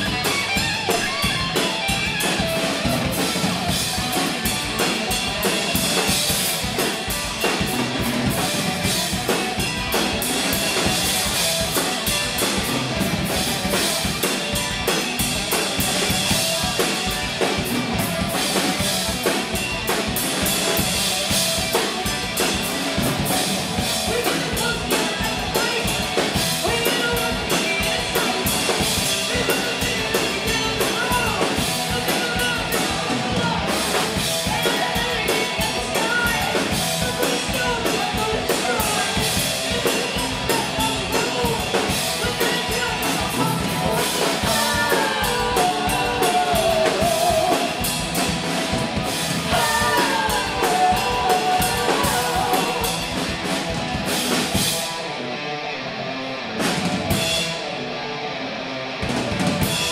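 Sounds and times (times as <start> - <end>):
drum kit beat: 0.0 - 55.0, 59.2 - 59.9
rock band playing: 0.0 - 59.9.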